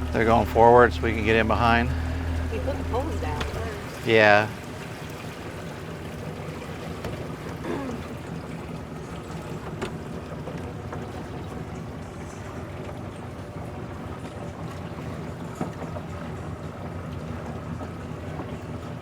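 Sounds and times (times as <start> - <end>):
boat motor idling: 0.0 - 19.0.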